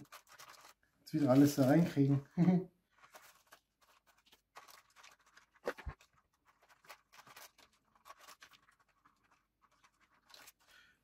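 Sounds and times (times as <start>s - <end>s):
rustling of packed parts: 0.0s - 11.0s.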